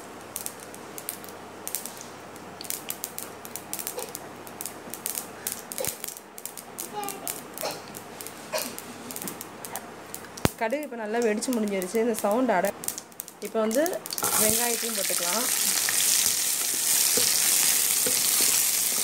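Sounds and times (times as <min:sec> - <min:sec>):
seeds popping in hot oil: 0:00.0 - 0:19.0.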